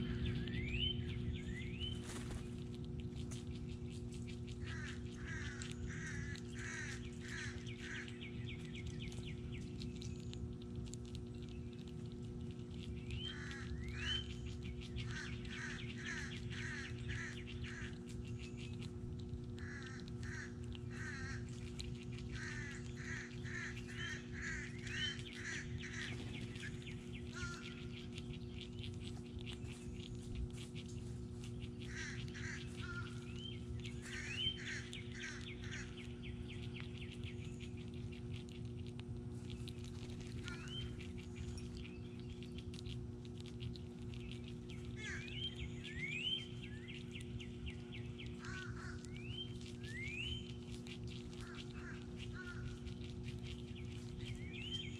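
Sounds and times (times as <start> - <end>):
birds calling with harsh notes: 0.0 - 54.9
steady low hum: 0.0 - 54.9.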